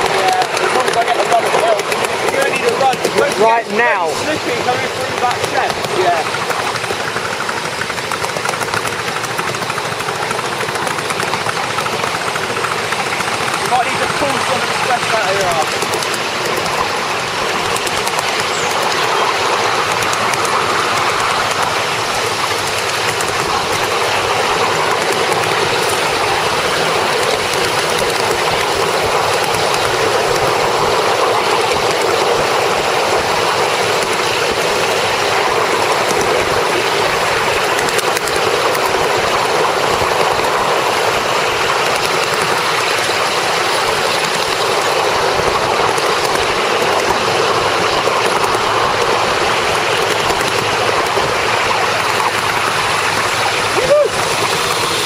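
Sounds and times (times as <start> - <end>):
miniature train rushing: 0.0 - 55.0.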